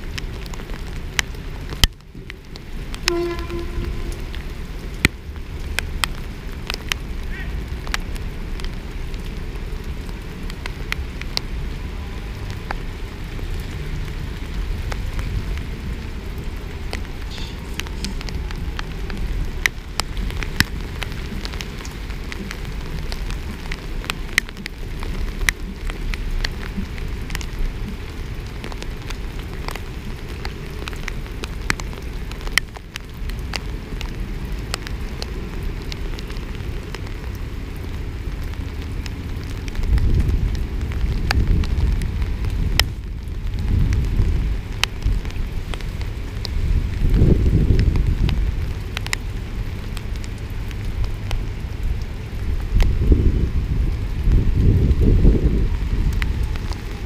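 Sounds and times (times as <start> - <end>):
heavy rain rushing: 0.0 - 57.0
raindrops tapping on camera: 0.0 - 57.0.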